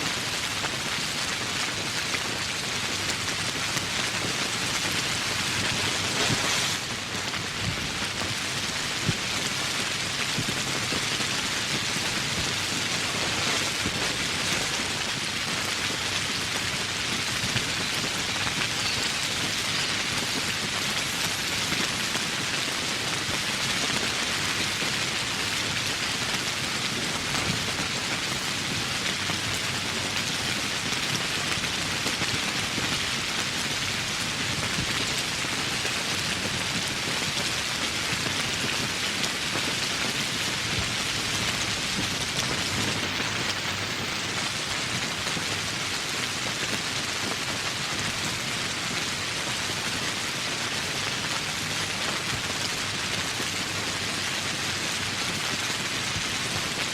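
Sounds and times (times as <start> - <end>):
heavy rain on foliage: 0.0 - 56.9.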